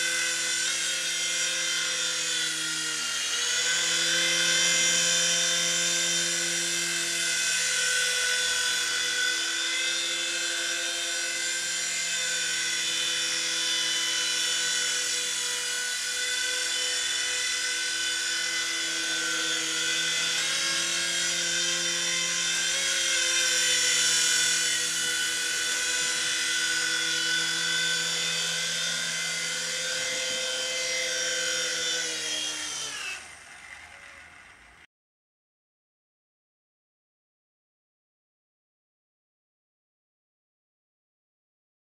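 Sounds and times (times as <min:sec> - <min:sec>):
toy helicopter rotors whining: 0:00.0 - 0:34.9.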